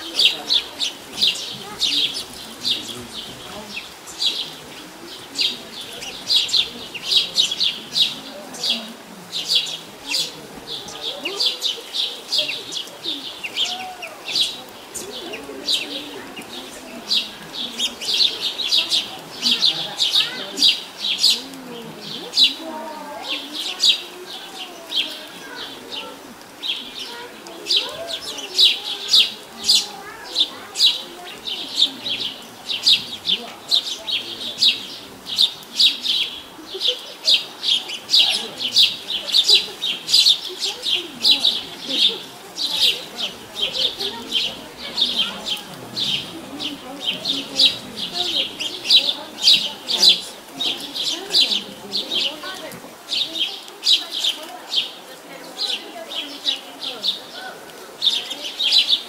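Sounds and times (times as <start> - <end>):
faint murmur of voices: 0.0 - 59.0
small birds chirping: 0.0 - 59.0.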